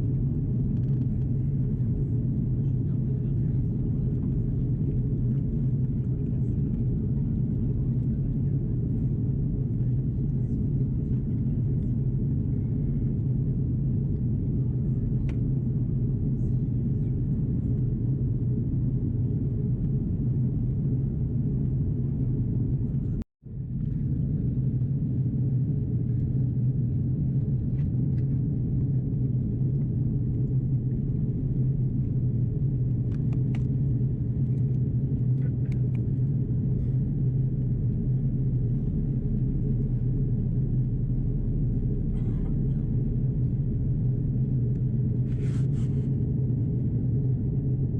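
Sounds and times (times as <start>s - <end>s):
aircraft cabin engine rumble: 0.0s - 47.9s.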